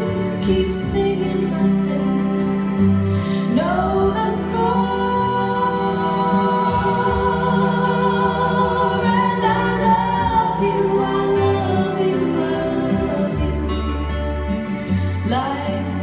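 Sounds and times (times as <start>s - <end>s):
low bass notes: 0.0s - 16.0s
slow female vocal song: 0.0s - 16.0s.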